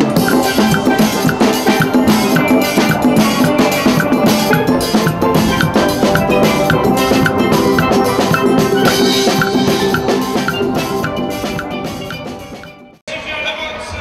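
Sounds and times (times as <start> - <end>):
congas: 0.0 - 13.0
drum kit: 0.0 - 13.0
steel pans playing melody: 0.0 - 13.0.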